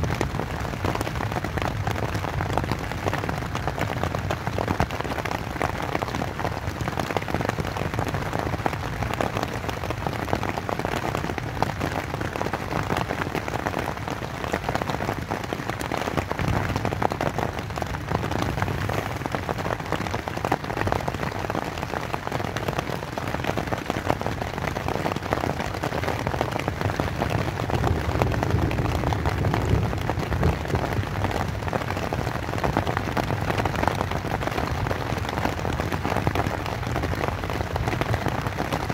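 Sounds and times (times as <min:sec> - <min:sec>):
rain pattering on tent fabric: 0:00.0 - 0:38.9.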